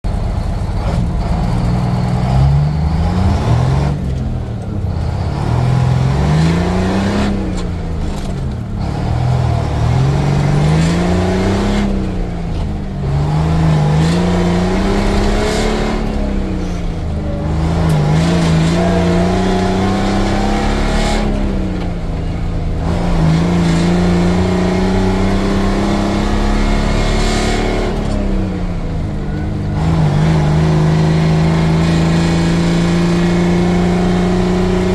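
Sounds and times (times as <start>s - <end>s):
truck diesel engine shifting gears: 0.1s - 34.9s.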